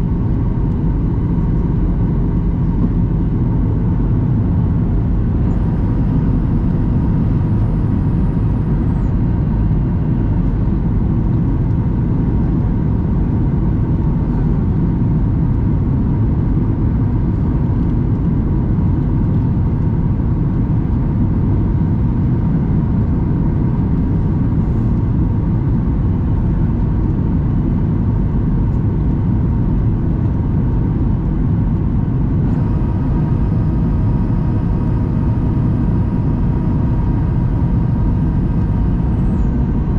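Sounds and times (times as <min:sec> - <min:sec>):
airflow around aircraft fuselage: 0:00.0 - 0:39.9
faint steady hum: 0:00.0 - 0:39.9
jet engines in flight: 0:00.0 - 0:39.9.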